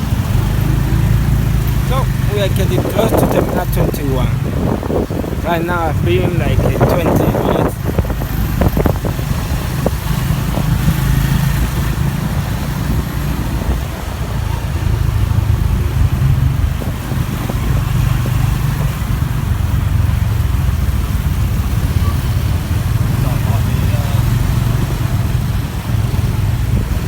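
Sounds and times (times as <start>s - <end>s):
motorcycle engine running: 0.0s - 27.0s
road traffic: 0.0s - 27.0s.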